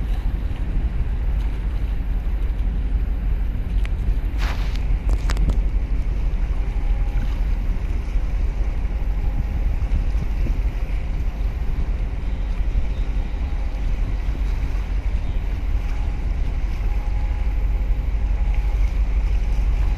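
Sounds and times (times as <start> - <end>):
faint ship hum: 0.0 - 19.9
wind rumbling on microphone: 0.0 - 19.9.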